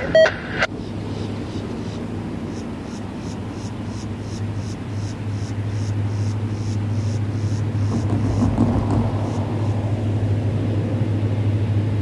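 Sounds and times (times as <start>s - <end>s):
distant diesel locomotive drone: 0.0s - 12.0s.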